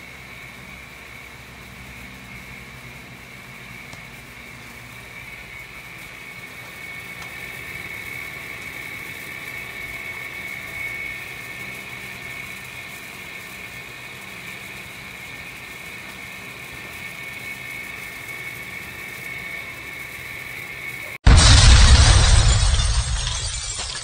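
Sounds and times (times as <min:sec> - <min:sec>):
blower fan whirring: 0:00.0 - 0:21.1.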